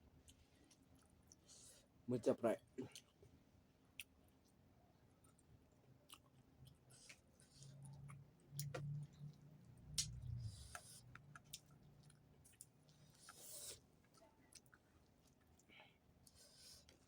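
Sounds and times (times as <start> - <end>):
person chewing food: 0.0 - 2.0, 2.8 - 17.0.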